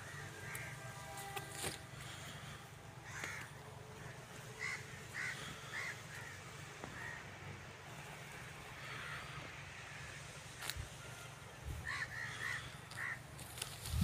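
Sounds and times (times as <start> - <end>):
bird calling: 0.0 - 13.8
low steady background hum: 0.0 - 14.0.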